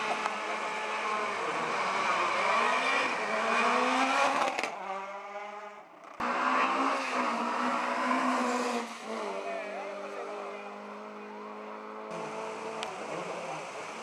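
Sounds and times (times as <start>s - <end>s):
rally car engine at high revs: 0.0s - 14.0s
rally car engine revving: 0.0s - 14.0s.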